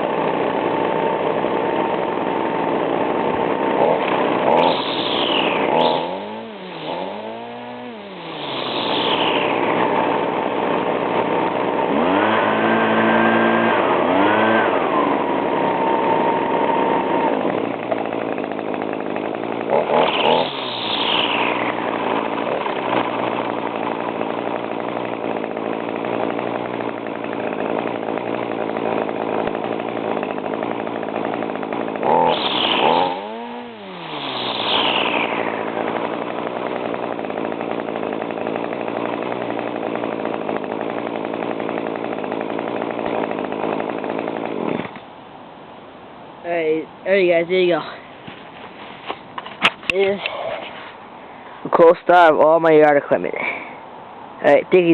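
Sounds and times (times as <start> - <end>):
leaf blower revving: 0.0 - 45.1, 46.4 - 53.8
string trimmer revving: 0.0 - 45.1, 46.4 - 48.3, 49.1 - 53.8, 54.4 - 54.9.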